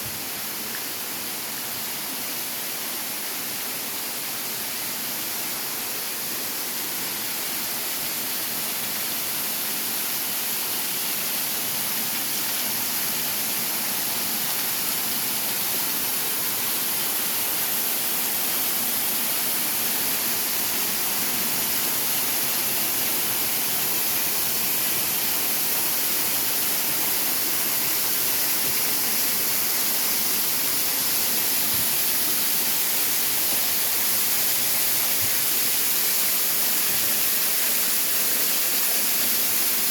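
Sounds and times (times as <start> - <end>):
waterfall rushing: 7.1 - 39.9.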